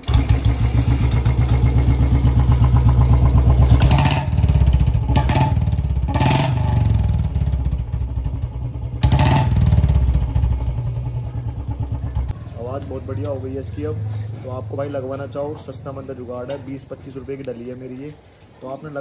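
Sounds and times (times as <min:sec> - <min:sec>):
motorcycle engine idling and revving: 0:00.0 - 0:18.4.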